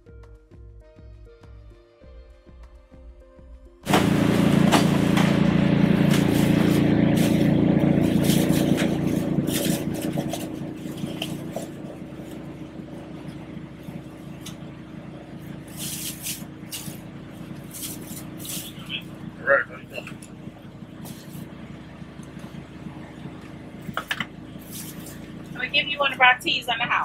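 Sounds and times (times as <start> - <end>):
low machine hum: 3.9 - 27.0.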